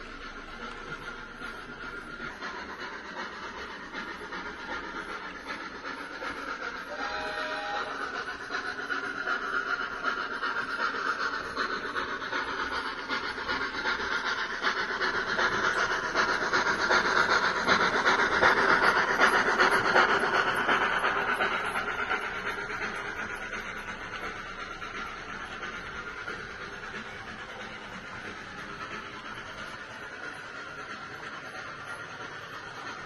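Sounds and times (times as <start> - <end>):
model steam locomotive chuffing: 0.0 - 33.0
steam hiss: 0.0 - 33.0
wheels rumbling on track: 0.0 - 33.0.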